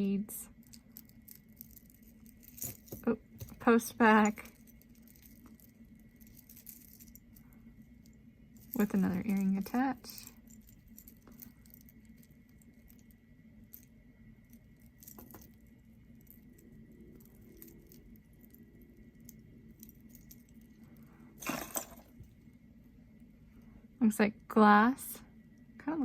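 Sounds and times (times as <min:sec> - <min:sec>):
jewelry clinking and rattling: 0:00.0 - 0:22.4.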